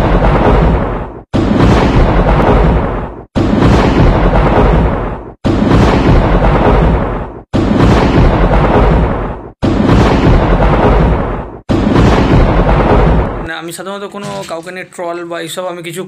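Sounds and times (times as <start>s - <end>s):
deep booming with rushing tail: 0.0s - 13.6s.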